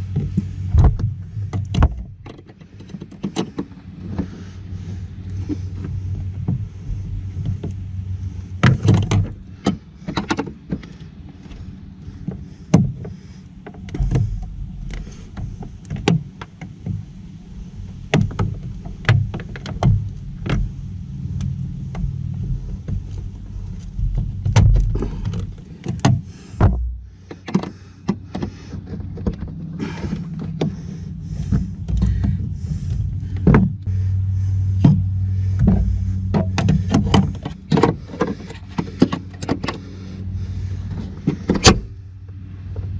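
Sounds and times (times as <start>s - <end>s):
low rubbing rumble: 0.0s - 42.9s.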